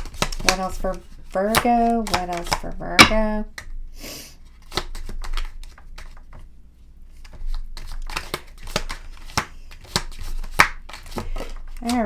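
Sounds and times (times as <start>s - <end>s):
cards being shuffled: 0.0s - 2.8s, 4.5s - 6.5s, 7.1s - 12.0s.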